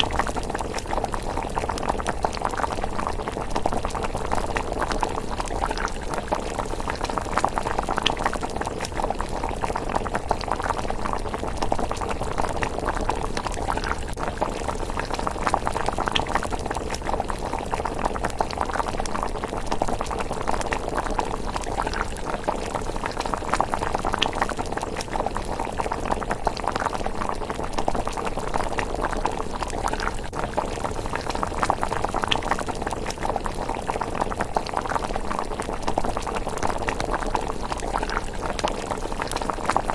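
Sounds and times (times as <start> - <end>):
porridge bubbling in a pot: 0.0 - 39.9.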